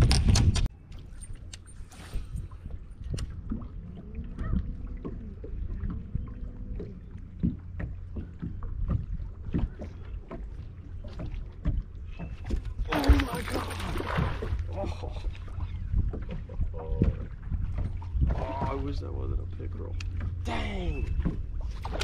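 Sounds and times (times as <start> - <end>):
steady low rumble: 0.0 - 22.0
knocks and taps on boat: 2.7 - 19.0, 19.6 - 22.0.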